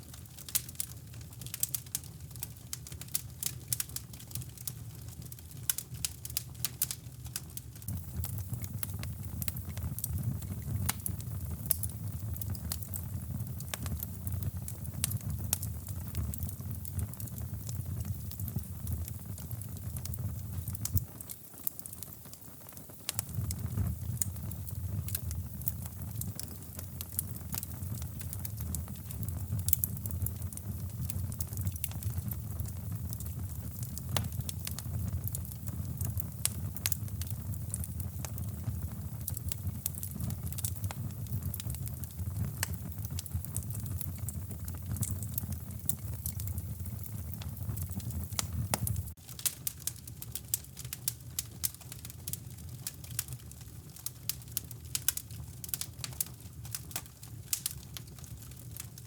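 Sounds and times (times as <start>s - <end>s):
fire crackling and popping: 0.0s - 59.0s
low fire rumble: 0.0s - 59.0s.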